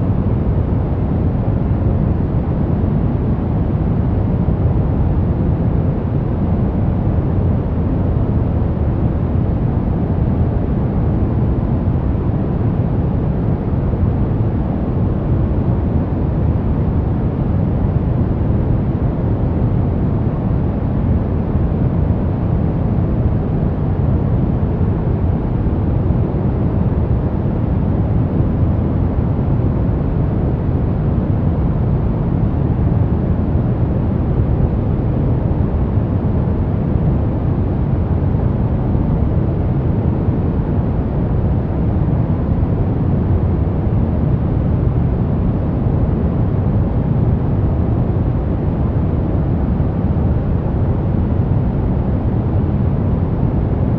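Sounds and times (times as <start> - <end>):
deep brown noise rush: 0.0 - 53.9.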